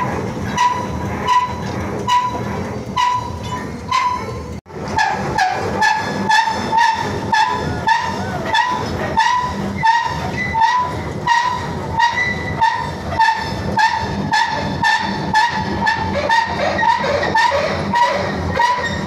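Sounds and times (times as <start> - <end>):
metal squeaking: 0.0 - 19.0
train moving slowly: 0.0 - 19.0.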